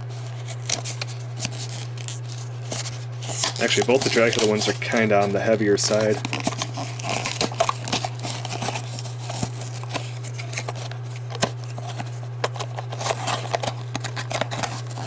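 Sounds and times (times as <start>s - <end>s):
plastic wrapper crinkling: 0.0s - 15.0s
steady low hum: 0.0s - 15.0s.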